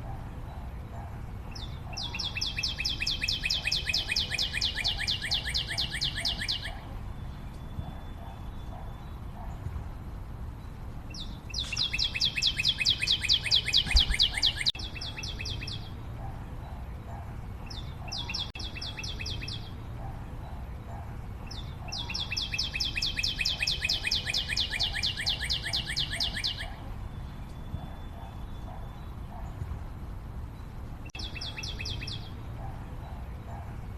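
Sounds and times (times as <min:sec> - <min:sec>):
steady background noise: 0:00.0 - 0:33.9.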